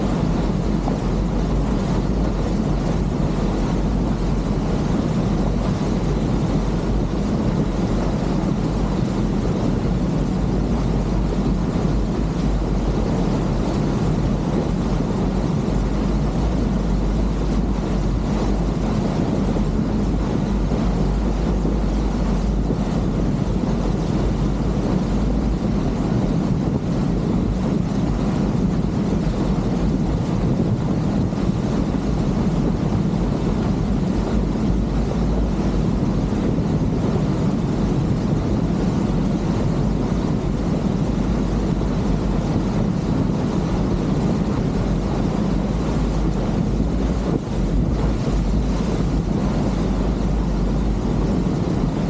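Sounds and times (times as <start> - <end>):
boat engine droning: 0.0 - 52.0
rushing water: 0.0 - 52.0
wind buffeting microphone: 0.0 - 52.0.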